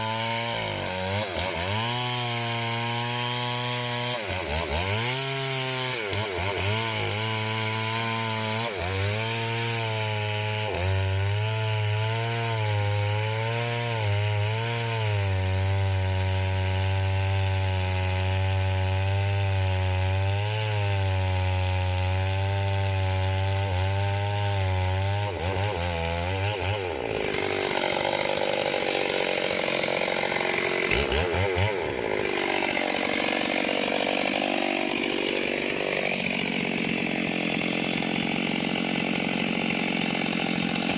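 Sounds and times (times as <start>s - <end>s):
chainsaw cutting into tree: 0.0s - 40.9s.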